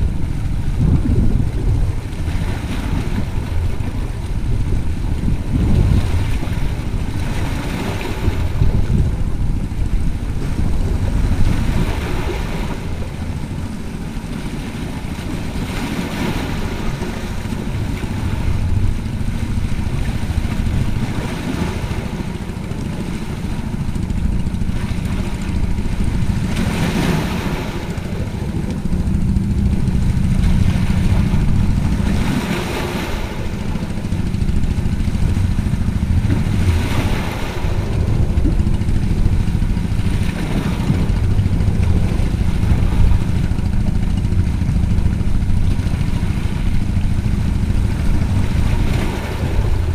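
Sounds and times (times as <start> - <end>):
low rumble: 0.0 - 49.9
waves splashing against rocks: 0.0 - 49.9.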